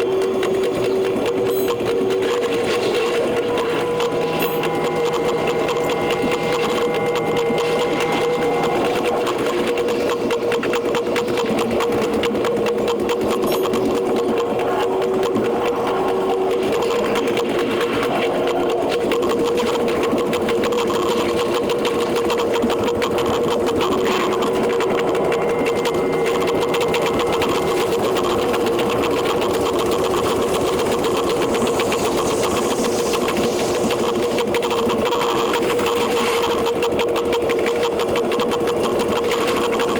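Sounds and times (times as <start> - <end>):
fast machine-like rattle: 0.0 - 39.9
steady tone: 1.4 - 35.4.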